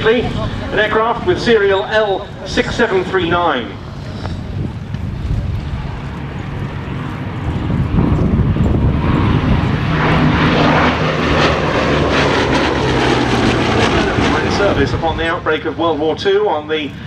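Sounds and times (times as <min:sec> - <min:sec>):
aircraft radial engines running: 0:00.0 - 0:17.0.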